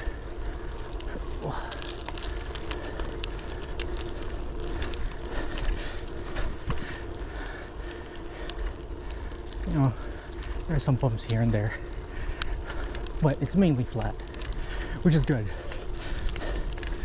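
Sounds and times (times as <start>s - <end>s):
bicycle rolling on pavement: 0.0s - 17.0s
bike clicks and rattles: 0.0s - 17.0s
wind rumbling on microphone: 0.0s - 17.0s.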